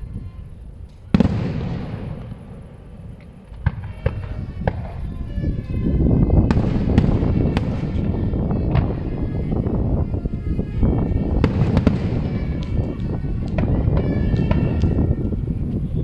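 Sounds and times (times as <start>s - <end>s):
rumbling echo: 0.0s - 16.0s
fireworks bursting and banging: 0.8s - 16.0s.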